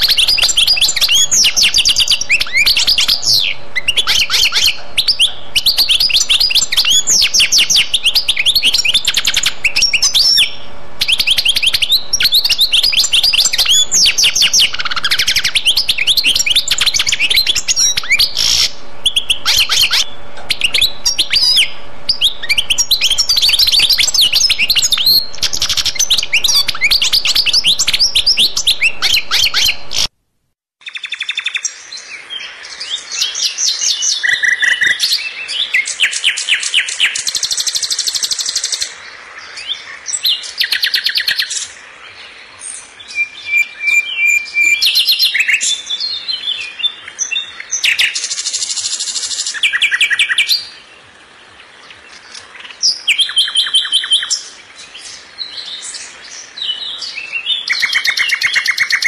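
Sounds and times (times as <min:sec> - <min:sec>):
birds chirping: 0:00.0 - 0:30.1, 0:30.8 - 0:59.0.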